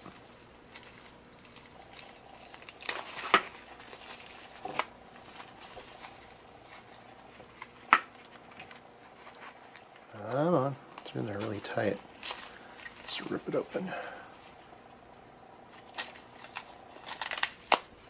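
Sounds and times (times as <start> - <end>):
bubble wrap crinkling and rustling: 0.0 - 18.0.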